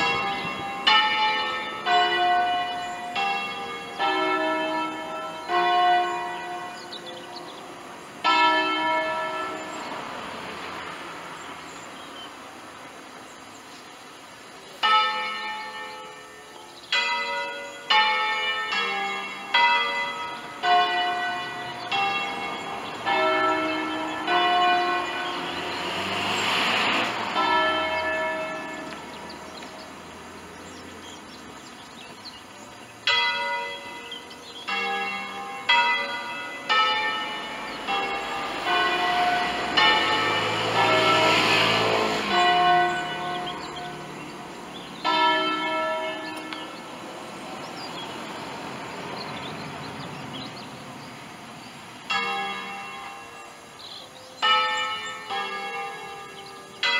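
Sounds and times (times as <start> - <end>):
church bells ringing: 0.0 - 13.0, 14.7 - 56.9.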